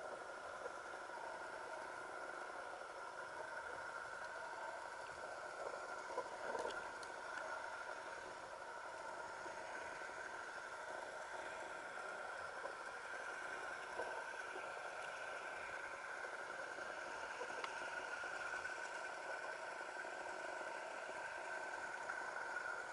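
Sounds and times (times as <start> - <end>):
constant hum: 0.0 - 22.9
faint clicks: 0.0 - 22.9.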